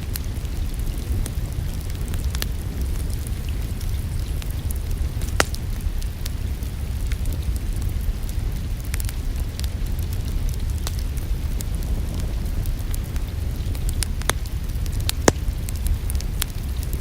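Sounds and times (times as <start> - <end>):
low rumble of rain: 0.0 - 17.0
wood fire crackling and popping: 0.0 - 17.0.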